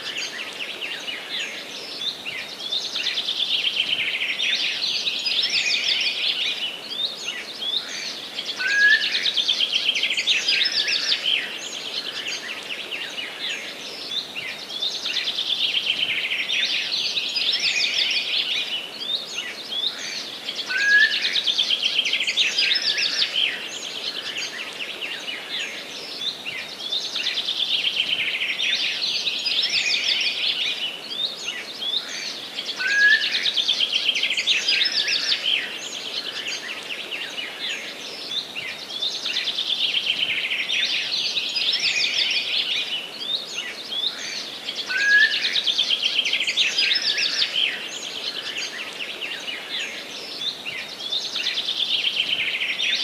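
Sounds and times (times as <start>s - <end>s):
songbirds chorus: 0.0s - 53.0s.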